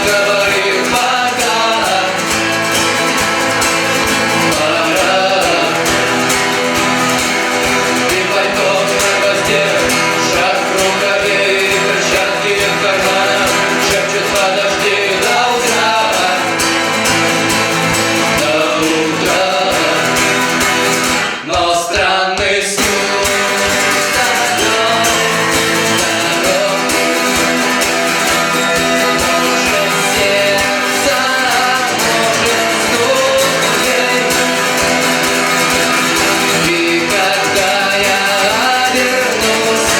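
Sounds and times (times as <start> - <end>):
band playing live: 0.0 - 21.7, 22.8 - 39.9
guitar: 0.0 - 39.9
person singing: 0.0 - 39.9.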